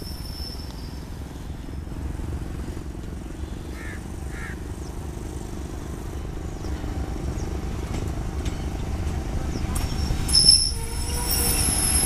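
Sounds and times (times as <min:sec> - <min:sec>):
locomotive engine rumbling: 0:00.0 - 0:12.0.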